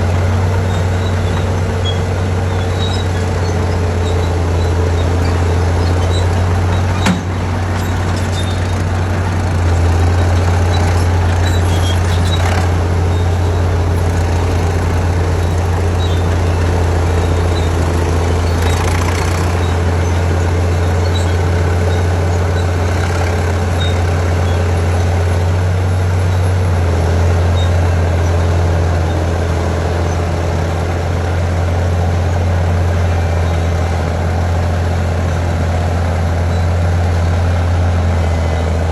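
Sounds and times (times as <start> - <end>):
loader engine humming: 0.0 - 38.9.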